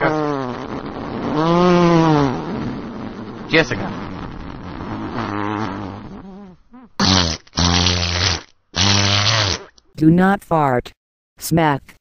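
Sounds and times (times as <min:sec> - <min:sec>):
fart sound effects: 0:00.0 - 0:09.8.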